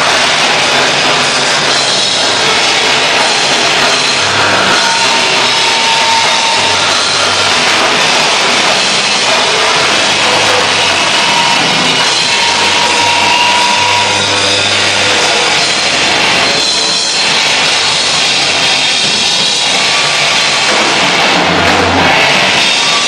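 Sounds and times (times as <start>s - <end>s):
harsh noise music: 0.0s - 23.0s.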